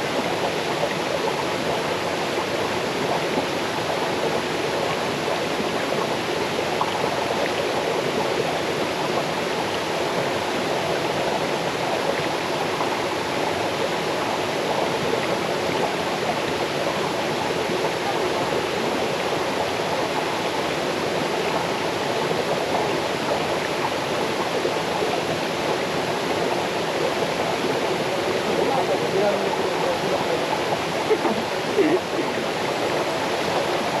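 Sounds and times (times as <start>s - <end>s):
waterfall rushing over rocks: 0.0s - 34.0s.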